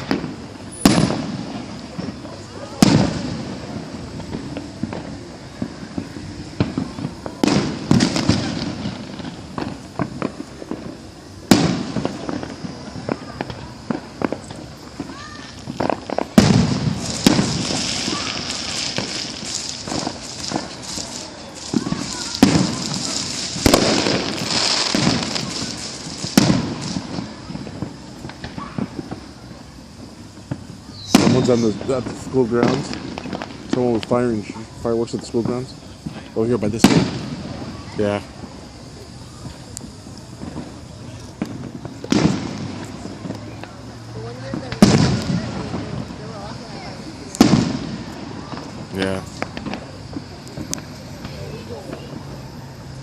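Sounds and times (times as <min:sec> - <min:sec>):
fireworks banging: 0:00.0 - 0:53.0.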